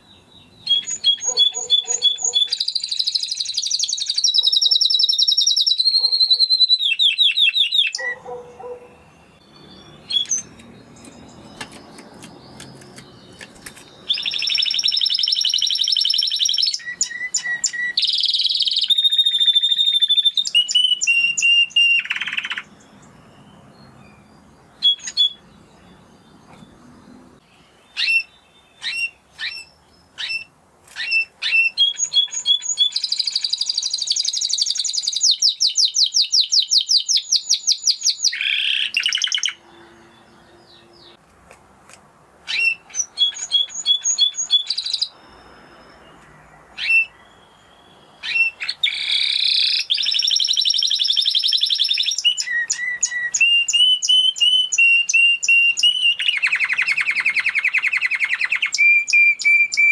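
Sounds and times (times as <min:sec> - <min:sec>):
canary singing trills: 0:00.0 - 0:41.2, 0:42.5 - 0:59.9.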